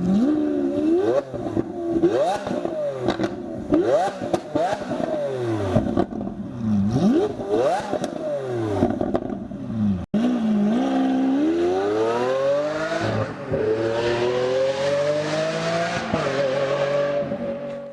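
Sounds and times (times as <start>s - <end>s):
sports car engine revving: 0.0s - 17.9s.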